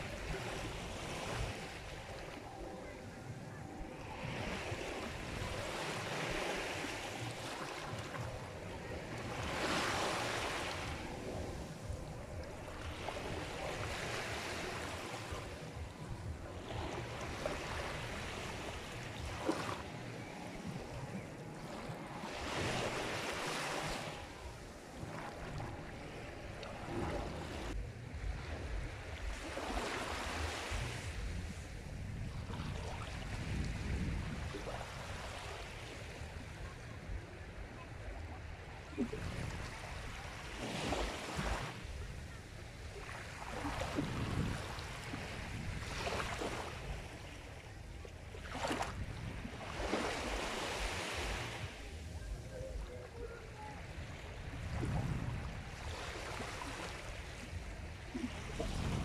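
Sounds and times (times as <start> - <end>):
low rumble of sea: 0.0 - 59.0
sea waves breaking: 0.0 - 59.0.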